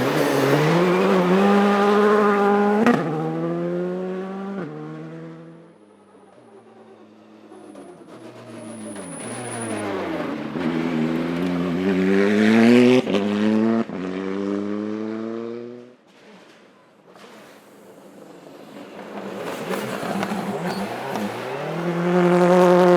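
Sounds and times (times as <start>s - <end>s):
rally car engine accelerating: 0.0s - 16.0s, 18.2s - 22.9s.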